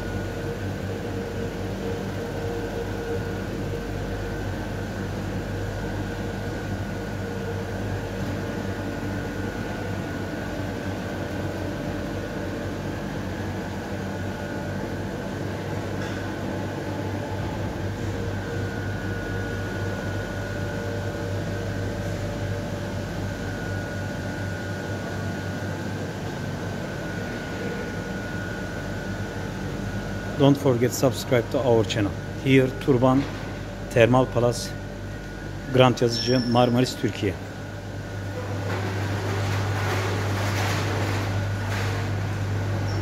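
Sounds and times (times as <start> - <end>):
machinery hum: 0.0 - 43.0.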